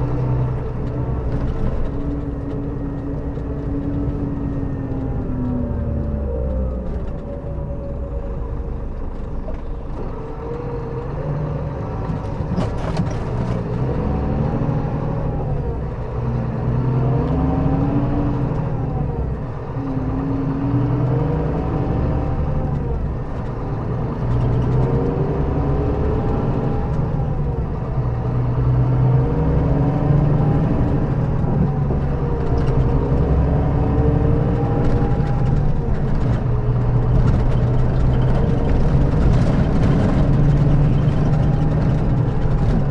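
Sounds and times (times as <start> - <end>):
bus engine under load: 0.0 - 42.9.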